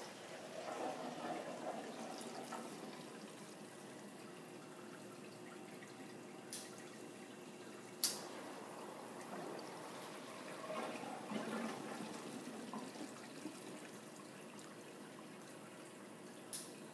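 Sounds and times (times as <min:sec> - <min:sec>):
water dripping: 0:01.6 - 0:16.9.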